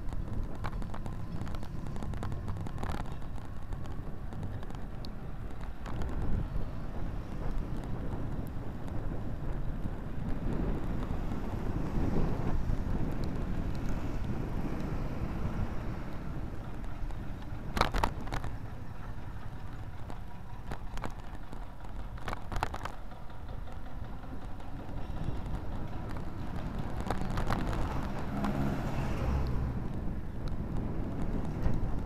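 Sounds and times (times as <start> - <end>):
bike rattling over bumps: 0.0 - 32.0
wind and road rumble: 0.0 - 32.0.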